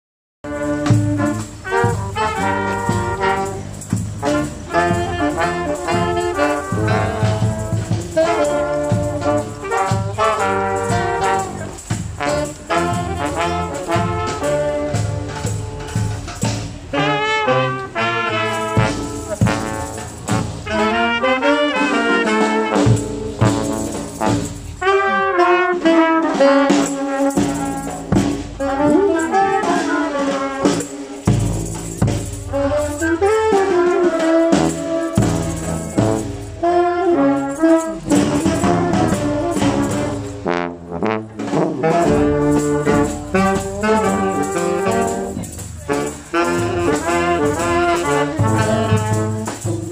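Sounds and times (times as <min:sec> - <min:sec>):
brass band playing: 0:00.4 - 0:49.9
percussion beat: 0:00.4 - 0:49.9
trombone: 0:00.4 - 0:49.9.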